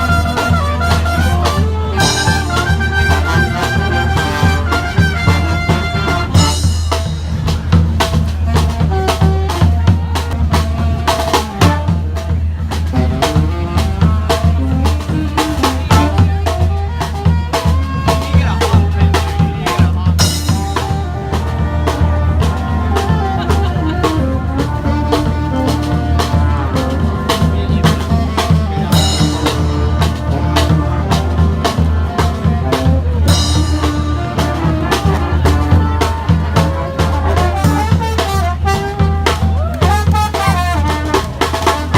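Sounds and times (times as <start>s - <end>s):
short horn notes: 0.0s - 7.0s, 12.8s - 41.9s
bass drum and snare beat: 0.0s - 41.9s
brass band playing: 0.0s - 41.9s.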